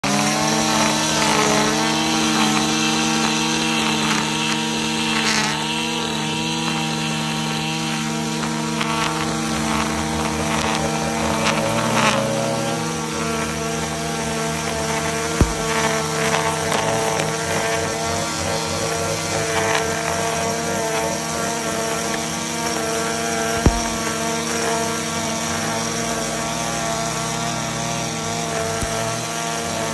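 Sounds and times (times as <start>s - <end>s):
string trimmer running: 0.0s - 29.9s.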